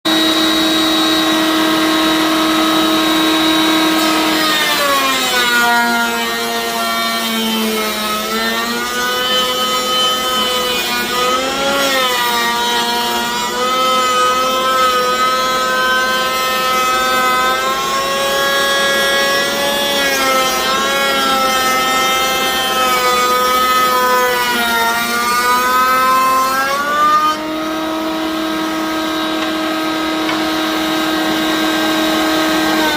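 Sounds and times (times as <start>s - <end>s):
router motor whine cutting wood: 0.1s - 32.9s.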